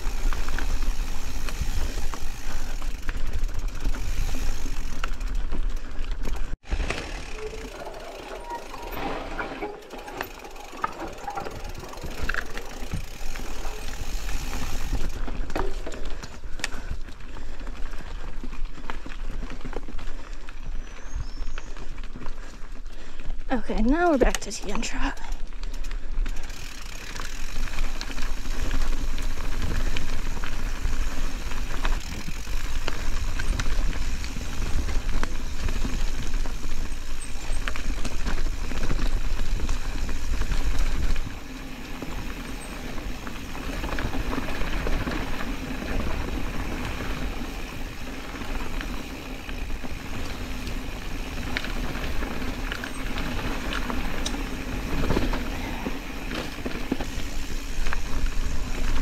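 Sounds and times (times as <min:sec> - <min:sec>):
mountain bike riding on dirt: 0:00.0 - 0:59.0.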